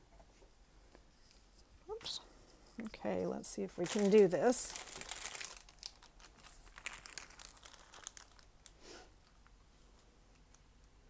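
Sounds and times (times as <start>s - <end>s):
plastic film crinkling: 1.6s - 10.6s.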